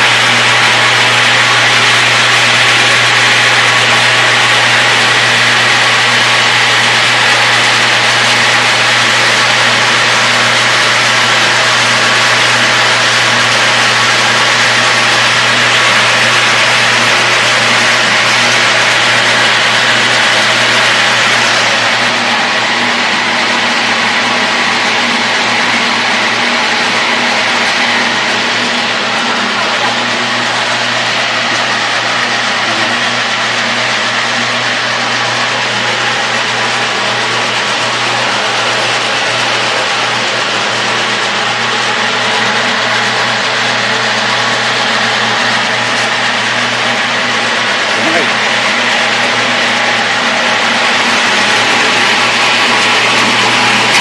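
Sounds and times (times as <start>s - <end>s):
coffee beans rushing and rattling: 0.0s - 54.0s
machinery low hum: 0.0s - 54.0s.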